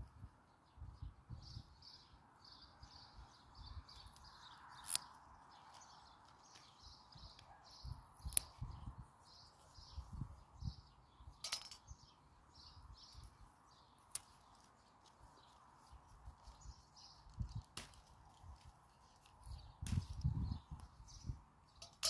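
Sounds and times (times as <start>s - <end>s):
small bird chirps: 0.7s - 22.0s.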